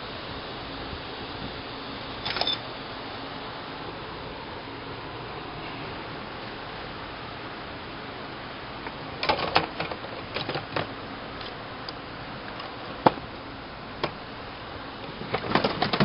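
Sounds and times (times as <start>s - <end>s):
steady hiss: 0.0s - 15.6s.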